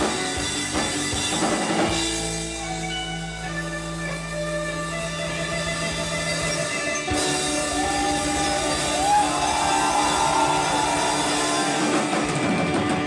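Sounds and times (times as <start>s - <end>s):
band music of held tones: 0.0s - 13.0s.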